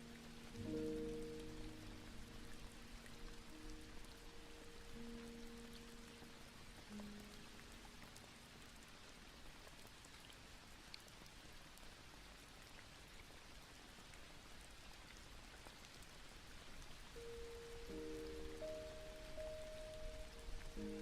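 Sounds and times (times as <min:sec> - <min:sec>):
faint rain-like patter: 0:00.0 - 0:21.0.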